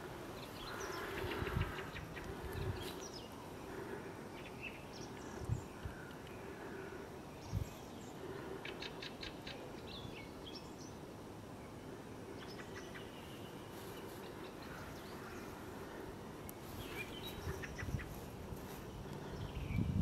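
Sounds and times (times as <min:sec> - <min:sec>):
background hum: 0:00.0 - 0:20.0
small birds chirping: 0:00.0 - 0:20.0.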